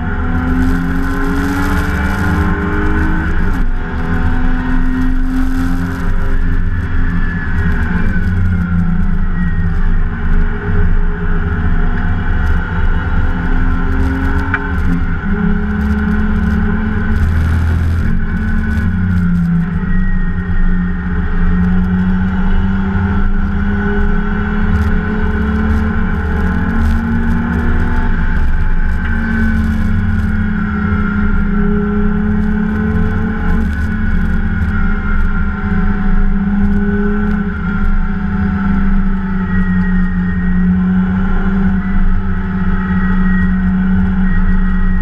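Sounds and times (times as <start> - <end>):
race car engine revving: 0.0 - 45.0.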